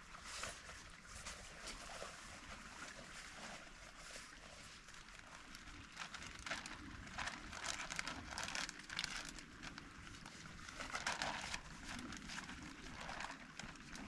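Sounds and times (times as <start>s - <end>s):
rustling and crinkling: 0.0s - 14.0s.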